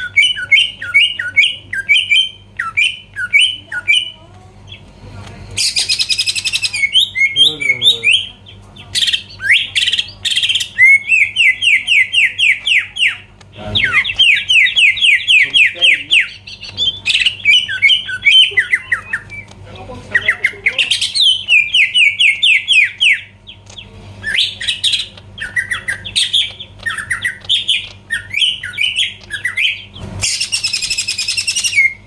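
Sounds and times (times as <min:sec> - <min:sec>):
bird singing chirps and trills: 0:00.0 - 0:04.9, 0:05.6 - 0:32.0.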